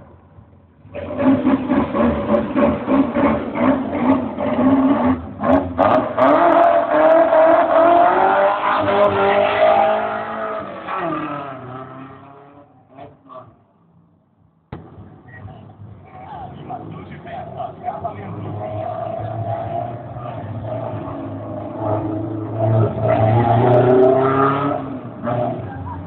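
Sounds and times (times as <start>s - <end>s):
car engine revving: 0.7s - 13.7s, 14.7s - 26.0s.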